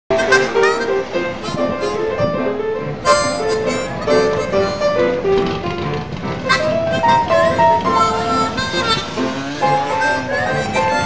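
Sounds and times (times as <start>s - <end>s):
background music melody: 0.1s - 11.0s.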